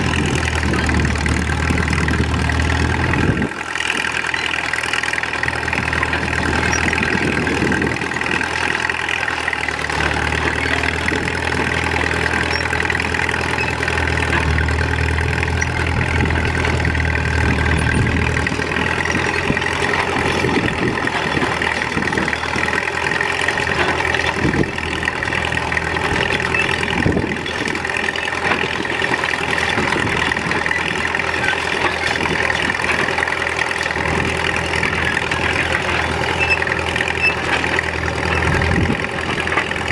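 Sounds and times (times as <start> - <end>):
diesel crawler engine under load: 0.0 - 39.9.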